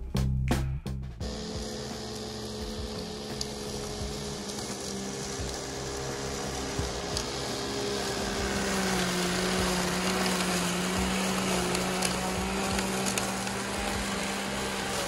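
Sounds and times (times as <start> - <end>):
electric lawn mower humming: 1.2 - 15.0.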